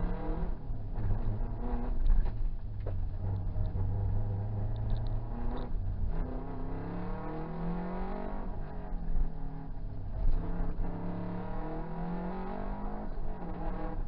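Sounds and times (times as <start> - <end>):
rally car engine from inside: 0.0 - 14.0.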